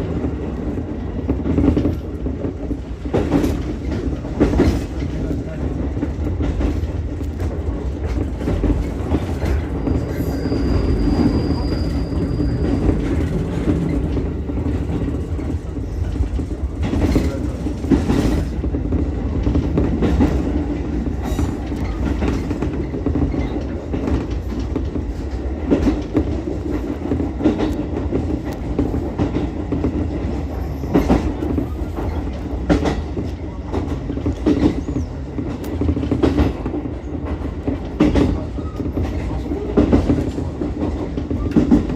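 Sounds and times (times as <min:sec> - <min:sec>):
railcar rumbling: 0:00.0 - 0:41.9
wheels clacking on rail joints: 0:00.0 - 0:41.9.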